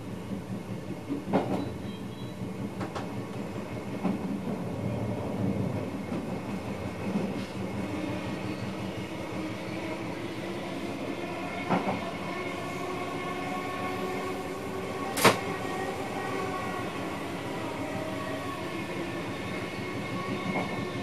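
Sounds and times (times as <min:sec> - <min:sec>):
electric train running hum: 0:00.0 - 0:21.0.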